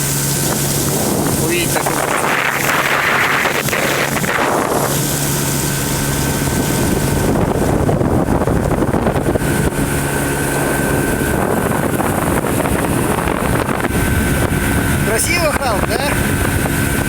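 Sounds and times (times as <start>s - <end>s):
motorboat engine running: 0.0s - 17.0s
wind on microphone: 0.0s - 17.0s.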